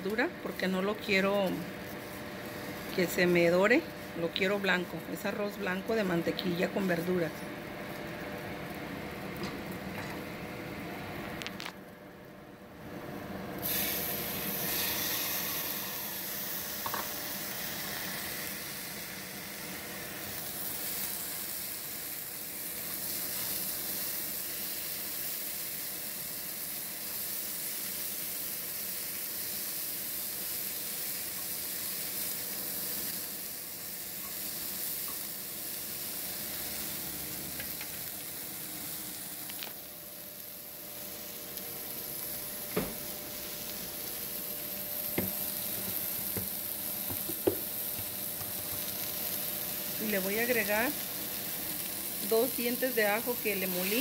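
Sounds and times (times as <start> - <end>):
rice sizzling in a pot: 0.0 - 11.9, 13.0 - 54.0.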